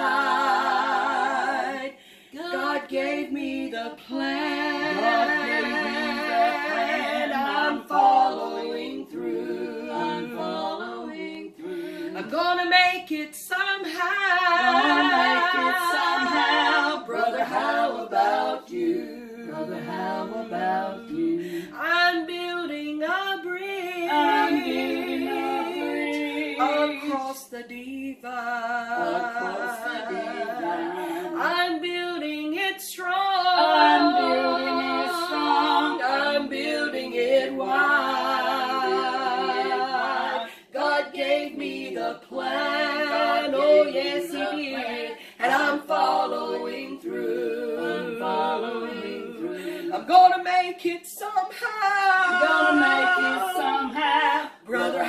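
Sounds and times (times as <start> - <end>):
women singing unaccompanied: 0.0 - 55.0.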